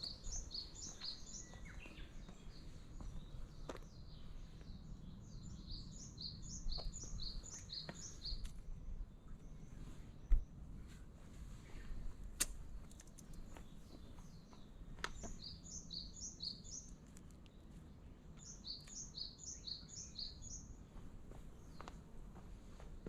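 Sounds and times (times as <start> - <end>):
small bird chirping: 0.0 - 10.0, 12.8 - 22.0.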